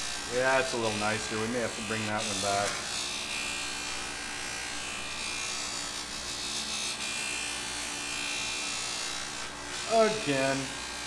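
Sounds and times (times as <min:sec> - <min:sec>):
bench buffer running: 0:00.0 - 0:11.0.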